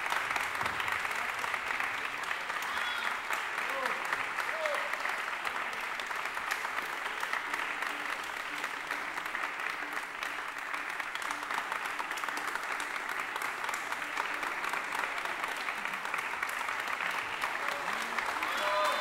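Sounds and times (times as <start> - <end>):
large audience applauding: 0.0 - 19.0.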